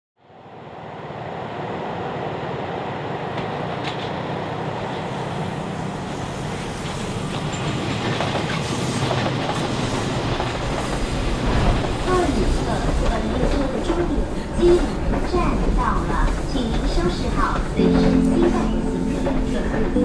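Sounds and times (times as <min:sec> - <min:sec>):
train rumbling on rails: 0:00.2 - 0:20.0.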